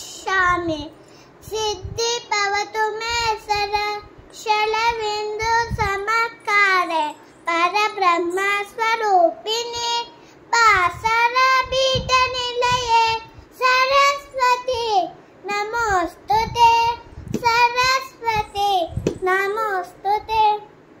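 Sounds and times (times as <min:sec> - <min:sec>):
girl chanting: 0:00.0 - 0:20.8.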